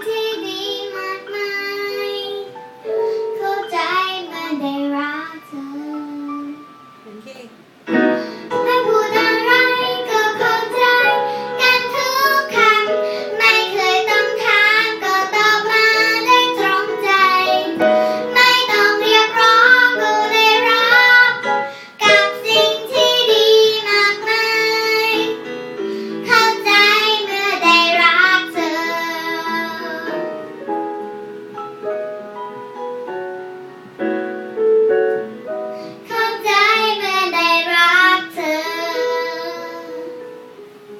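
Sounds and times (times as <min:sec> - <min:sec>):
child singing a ballad: 0:00.0 - 0:06.9, 0:07.9 - 0:30.7, 0:35.7 - 0:40.6
piano accompaniment: 0:00.0 - 0:40.9.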